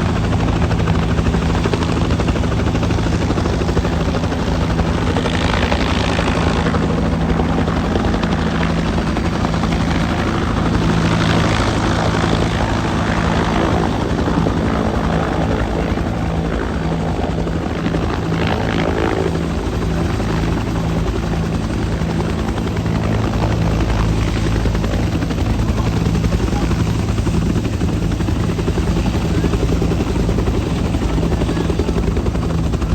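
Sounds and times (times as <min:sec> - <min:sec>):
helicopter rotor thrum: 0:00.0 - 0:32.9
helicopter turbine noise: 0:00.0 - 0:32.9.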